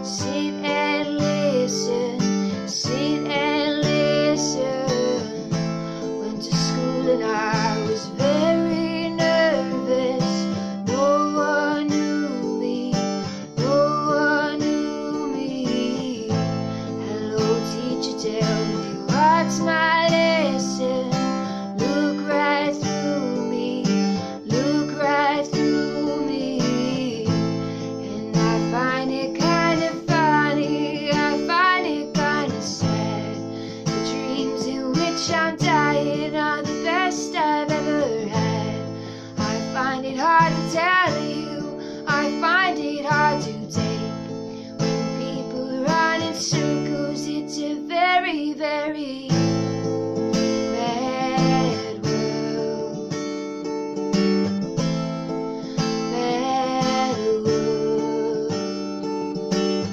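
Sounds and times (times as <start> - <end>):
woman singing: 0.0 - 54.9, 55.5 - 59.9
acoustic guitar strumming: 0.0 - 59.9.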